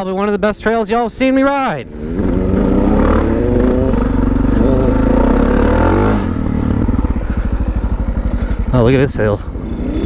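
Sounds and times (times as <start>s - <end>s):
motorcycle engine under throttle: 1.8s - 10.0s.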